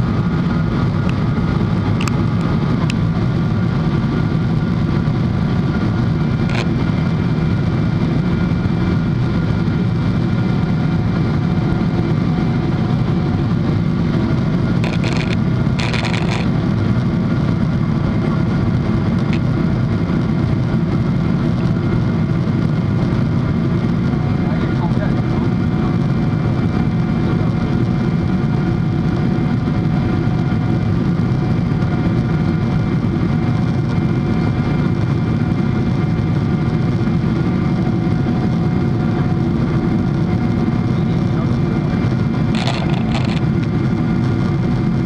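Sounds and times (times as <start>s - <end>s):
jet engine cabin drone: 0.0s - 45.0s.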